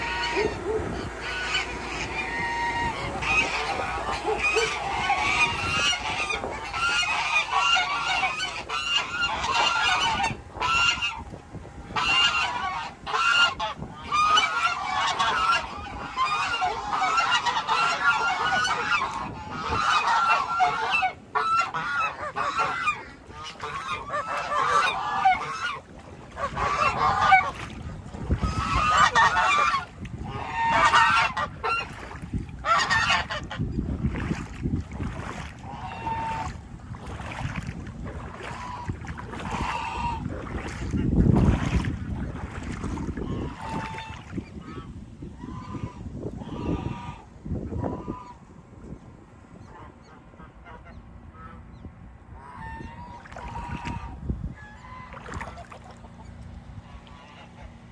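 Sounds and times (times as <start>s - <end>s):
geese honking: 0.0s - 48.5s, 49.5s - 57.9s.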